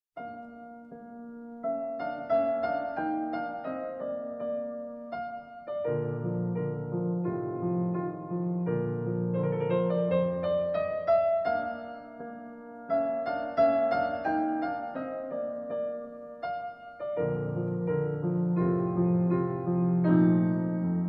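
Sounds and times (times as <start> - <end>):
piano music: 0.2 - 21.0.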